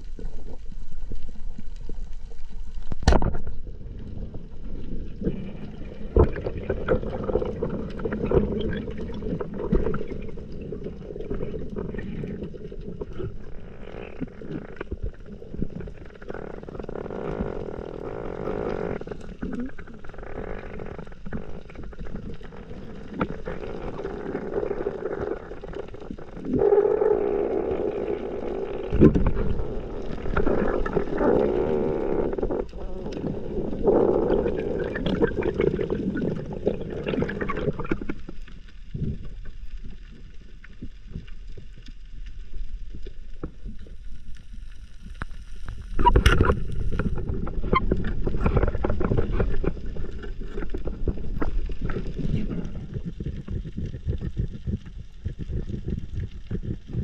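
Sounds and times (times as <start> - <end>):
water swishing underwater: 0.0 - 57.0.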